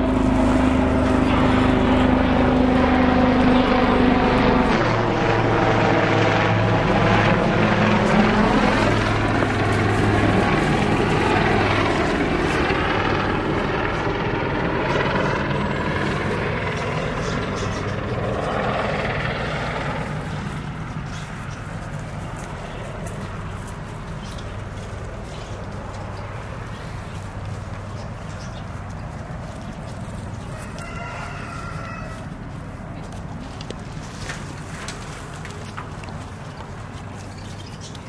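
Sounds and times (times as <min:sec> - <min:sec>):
helicopter rotor drone: 0:00.0 - 0:38.0.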